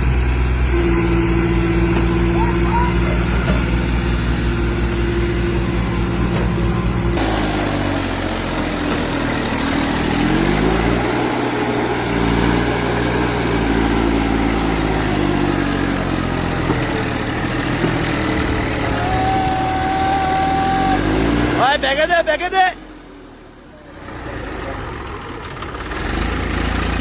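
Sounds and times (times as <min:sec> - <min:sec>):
diesel engine revving under load: 0:00.0 - 0:27.0.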